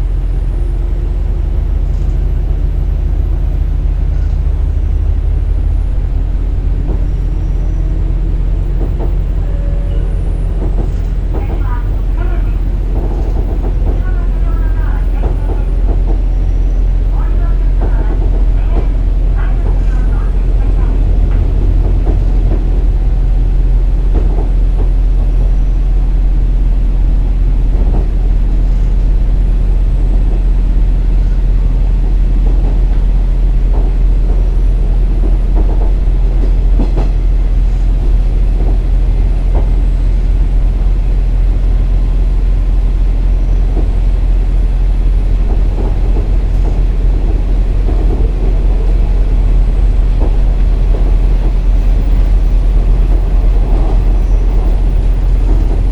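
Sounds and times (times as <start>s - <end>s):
diesel engine drone: 0.0s - 55.9s
wheels rumbling on rail: 0.0s - 55.9s.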